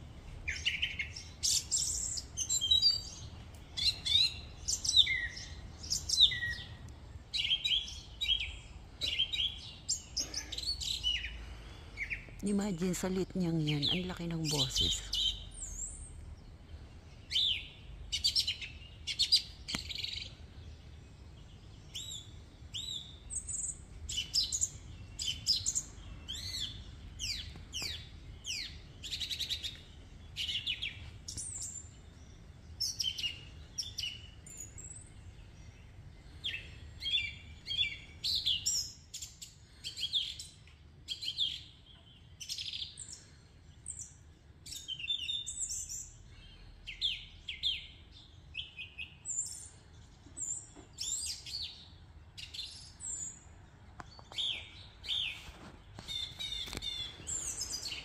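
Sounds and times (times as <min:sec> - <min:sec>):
small birds chirping and singing: 0:00.0 - 0:58.0.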